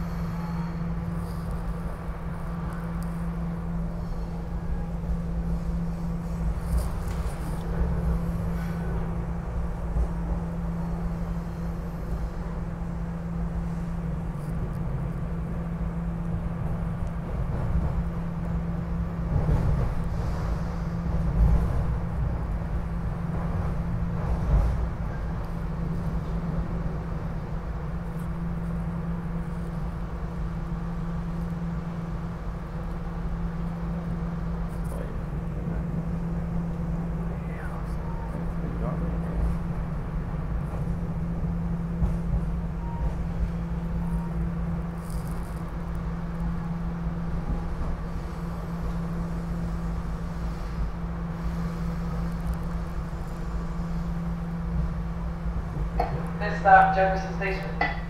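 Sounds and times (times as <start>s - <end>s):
train interior hum: 0.0s - 58.0s
wheels rumbling on track: 0.0s - 58.0s.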